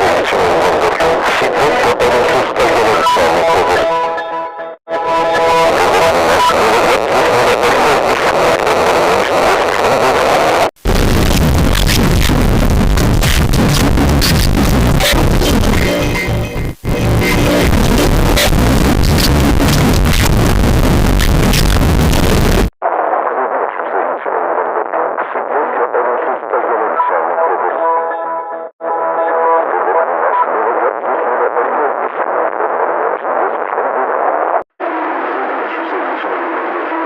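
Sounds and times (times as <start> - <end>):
distorted electronic music: 0.0 - 34.2.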